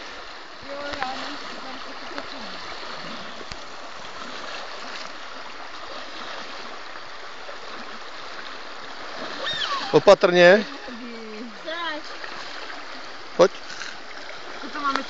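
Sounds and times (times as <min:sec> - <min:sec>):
rushing creek water: 0:00.0 - 0:15.0.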